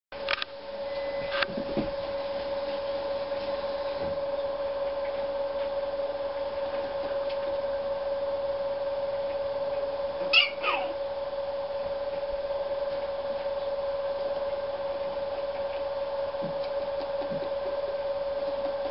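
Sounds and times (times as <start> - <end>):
steady machine hum: 0.1 - 18.9.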